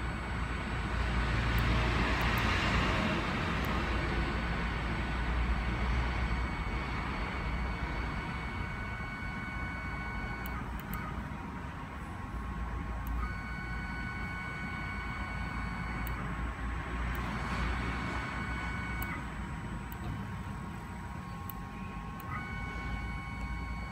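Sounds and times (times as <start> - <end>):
spindle motor whine: 0.0 - 23.9
wood router low rumble: 0.0 - 23.9.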